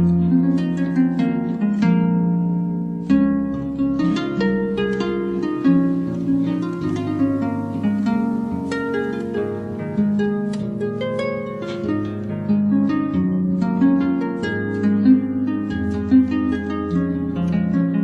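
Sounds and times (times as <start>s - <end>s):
calm harp-like plucked string music: 0.0s - 18.0s.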